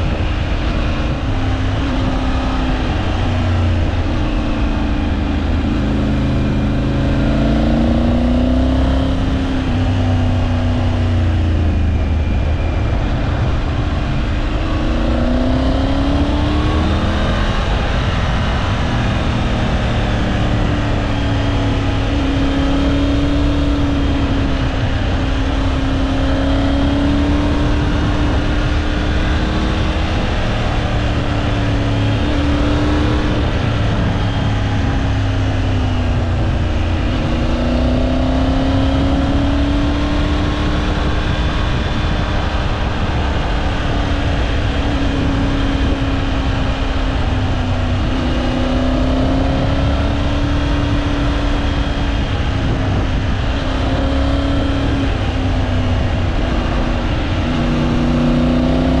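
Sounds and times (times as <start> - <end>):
motorcycle engine revving: 0.0 - 59.0
road and wind noise: 0.0 - 59.0.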